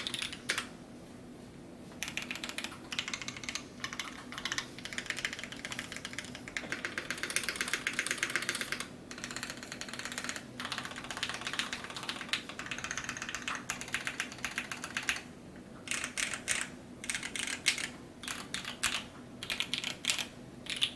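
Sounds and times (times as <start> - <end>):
fast typing on mechanical keyboard: 0.0 - 0.7, 2.0 - 15.2, 15.9 - 20.9.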